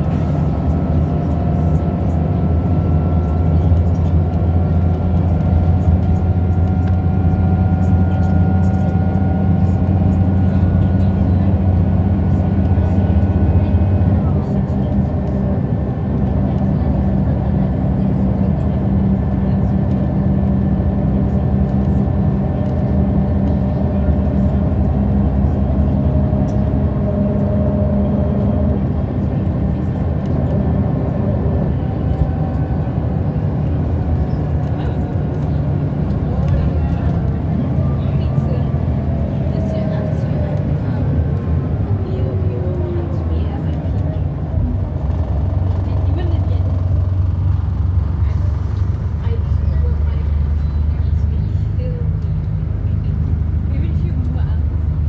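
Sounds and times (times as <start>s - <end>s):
bus engine drone with whine: 0.0s - 55.0s
road rumble: 0.0s - 55.0s.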